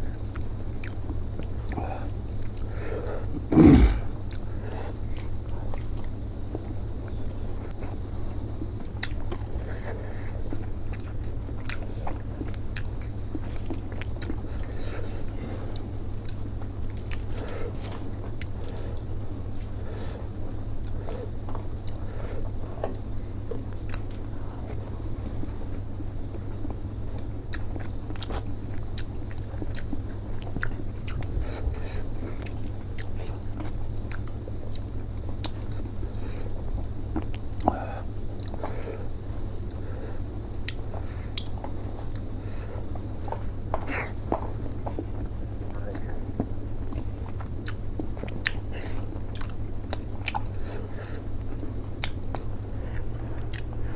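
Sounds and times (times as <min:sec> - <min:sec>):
chewing dumplings: 0:00.0 - 0:53.9
steady low hum: 0:00.0 - 0:53.9.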